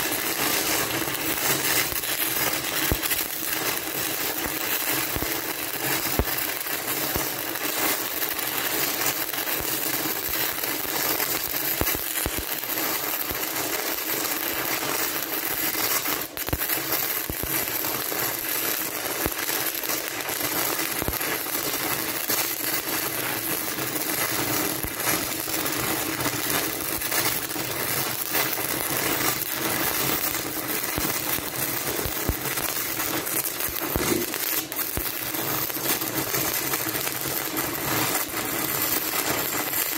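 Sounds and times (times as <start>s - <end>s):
welding arc crackling: 0.0s - 39.9s.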